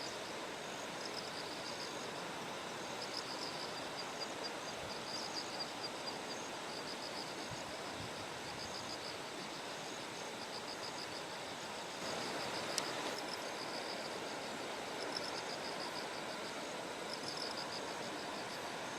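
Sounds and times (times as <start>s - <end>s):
background hiss: 0.0s - 18.9s
crickets chirping: 0.0s - 18.9s.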